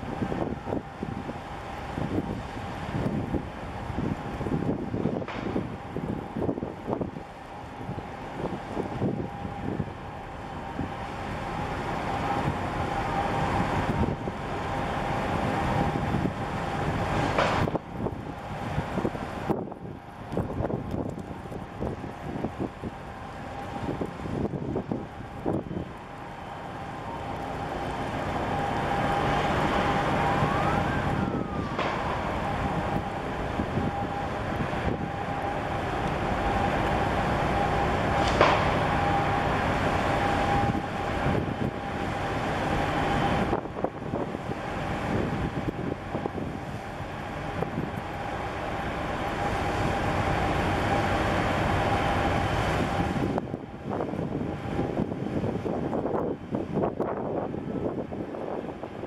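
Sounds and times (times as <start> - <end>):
ship rumble and rushing: 0.0 - 59.0.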